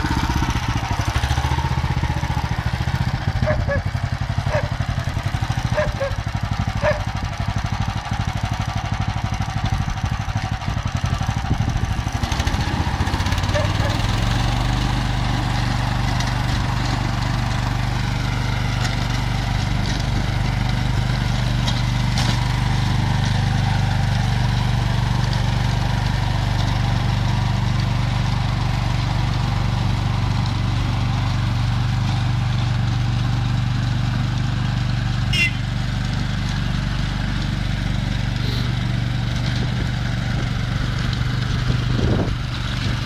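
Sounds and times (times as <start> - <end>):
tiller churning soil: 0.0 - 43.0
tractor engine running: 0.0 - 43.0.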